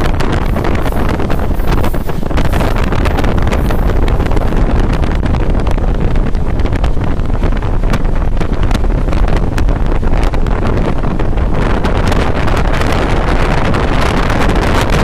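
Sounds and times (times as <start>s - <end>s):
train rumble inside coach: 0.0s - 15.0s
wind buffeting microphone: 0.0s - 15.0s.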